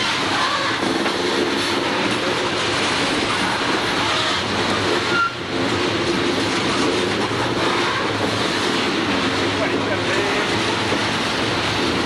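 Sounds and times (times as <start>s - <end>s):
steel wheels rolling on rail: 0.0s - 12.0s.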